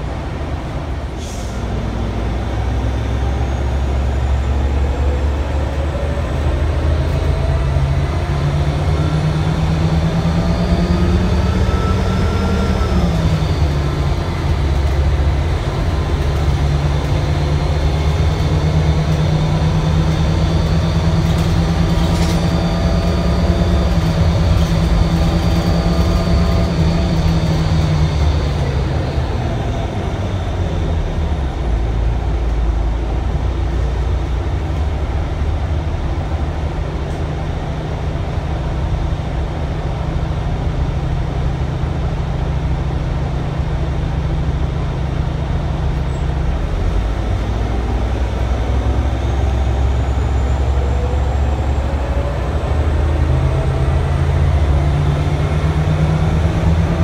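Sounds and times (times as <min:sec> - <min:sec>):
bus engine hum and whine: 0:00.0 - 0:57.0.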